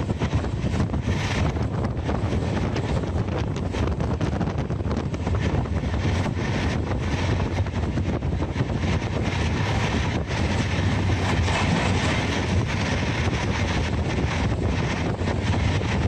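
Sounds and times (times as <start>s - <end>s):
rushing air: 0.0s - 16.0s
train wheels rumbling on rails: 0.0s - 16.0s.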